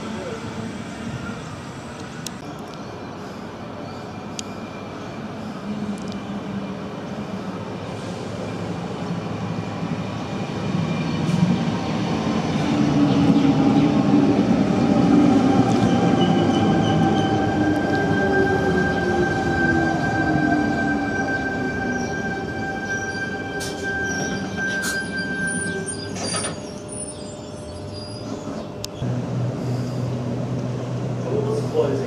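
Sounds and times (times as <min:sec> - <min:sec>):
electric train rumble: 0:03.1 - 0:32.0.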